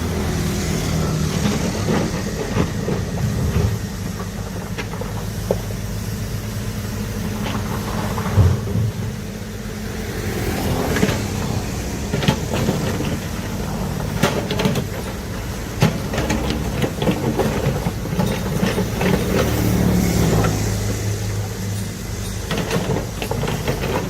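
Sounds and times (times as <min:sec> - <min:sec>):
excavator diesel engine: 0:00.0 - 0:24.0.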